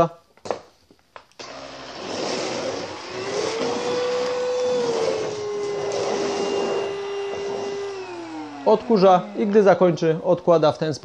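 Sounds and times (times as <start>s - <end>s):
stick vacuum running: 1.4s - 10.7s.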